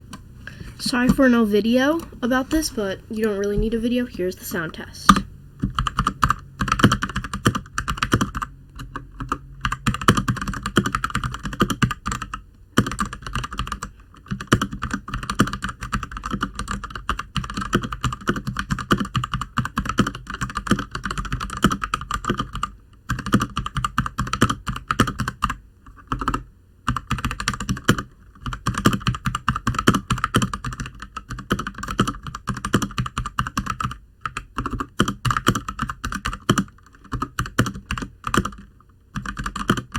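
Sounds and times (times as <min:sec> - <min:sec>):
mechanical keyboard typing: 0:05.0 - 0:39.9.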